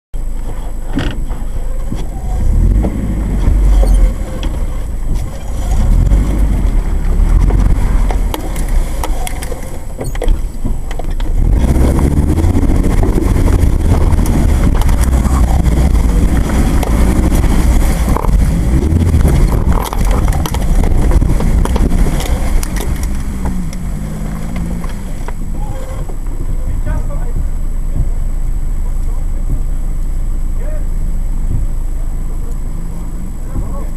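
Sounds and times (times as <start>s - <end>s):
off-road vehicle engine rumble: 0.1s - 33.9s
vehicle body rattling over bumps: 0.2s - 33.9s.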